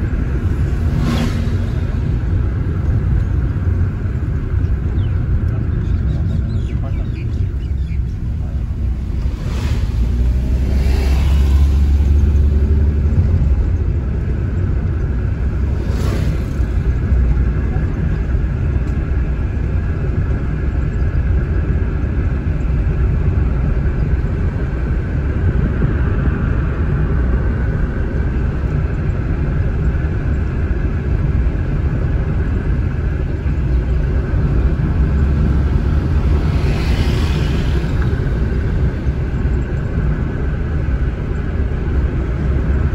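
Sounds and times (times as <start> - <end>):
car engine and tyres rumbling: 0.0 - 42.9.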